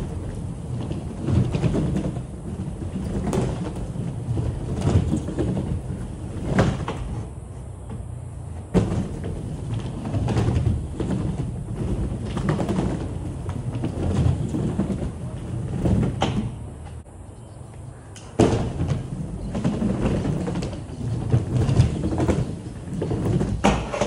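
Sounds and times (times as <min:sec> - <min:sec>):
skateboard wheels rumbling on wood: 0:00.0 - 0:17.1, 0:17.8 - 0:24.0.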